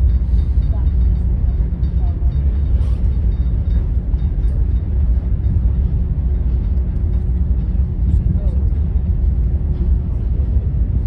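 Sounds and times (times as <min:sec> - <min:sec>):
ferry low rumble: 0:00.0 - 0:11.0.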